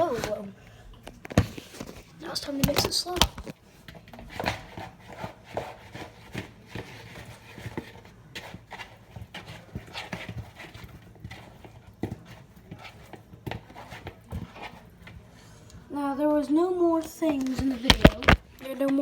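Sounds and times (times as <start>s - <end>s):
chicken wings stirred in a bowl: 0.0s - 16.2s.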